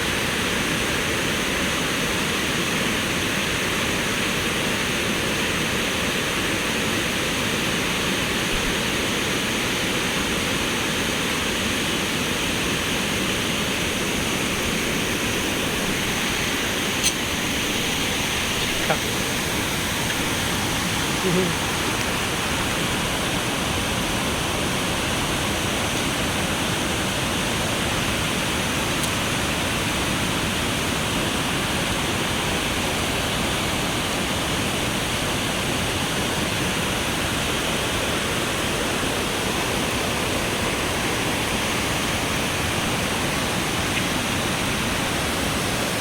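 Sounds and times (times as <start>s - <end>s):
water rushing: 0.0s - 46.0s.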